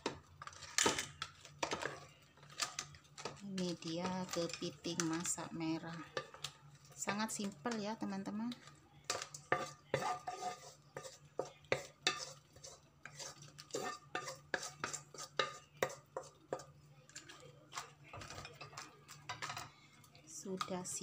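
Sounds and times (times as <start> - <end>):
spatula scraping a wok: 0.0 - 19.7.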